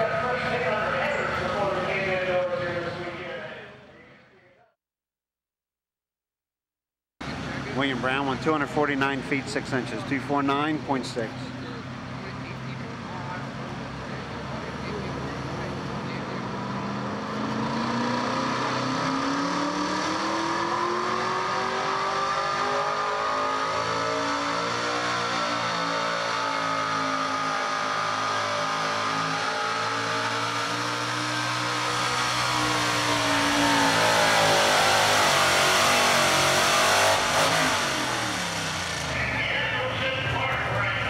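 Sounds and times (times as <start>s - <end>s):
truck engine at high revs: 7.2s - 41.0s.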